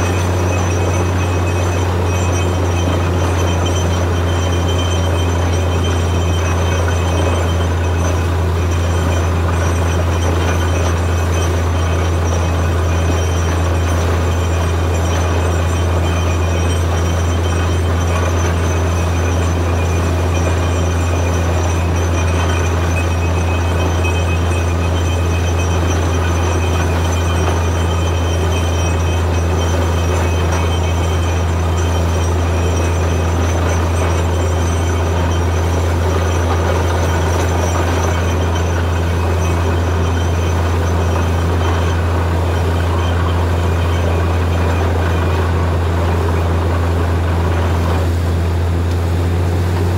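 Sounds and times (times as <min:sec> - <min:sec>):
drilling rig deep hum: 0:00.0 - 0:49.9.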